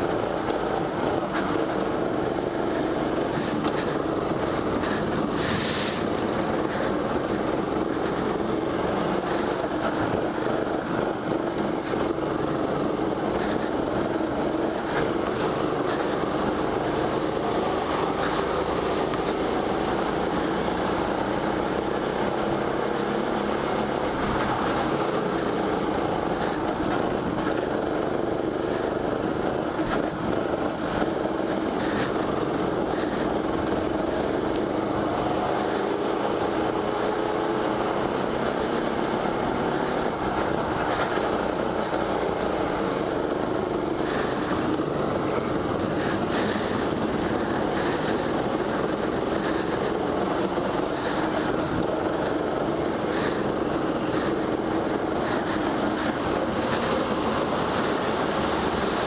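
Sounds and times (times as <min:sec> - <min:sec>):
go-kart motor droning: 0:00.0 - 0:59.0.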